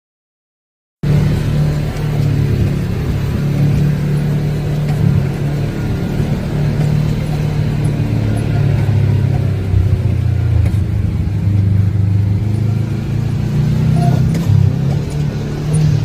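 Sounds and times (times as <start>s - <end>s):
vehicle engine running: 1.0s - 16.0s.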